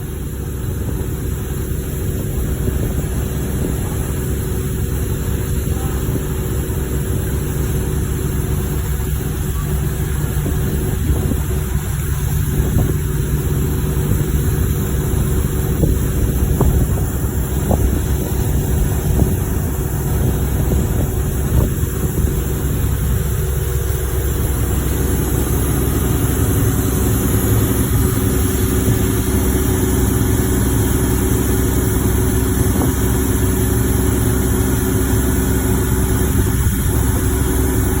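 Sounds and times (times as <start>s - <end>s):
pile-driving machinery drone: 0.0s - 38.0s.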